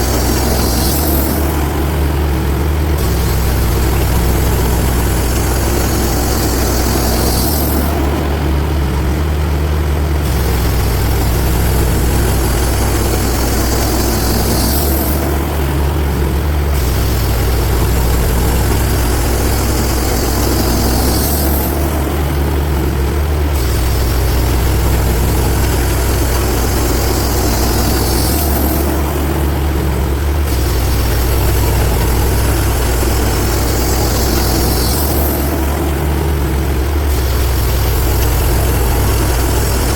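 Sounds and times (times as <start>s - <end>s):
band sawmill sawing a log: 0.0s - 39.9s.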